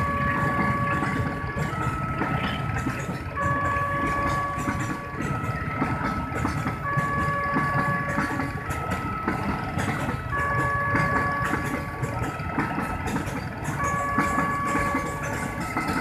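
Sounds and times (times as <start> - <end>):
freight train rumbling: 0.0 - 16.0
two-tone warning siren: 0.0 - 16.0.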